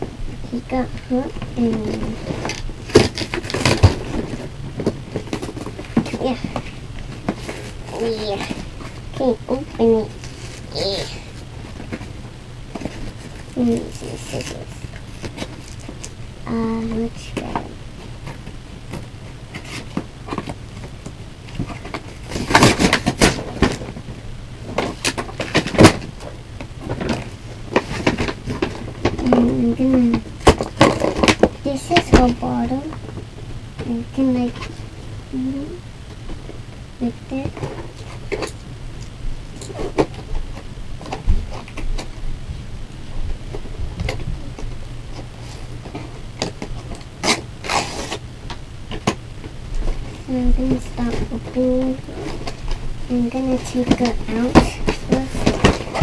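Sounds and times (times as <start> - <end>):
cardboard and plastic packaging rustling: 0.0 - 35.1, 36.0 - 42.4, 43.0 - 56.0
low steady hum: 0.0 - 56.0.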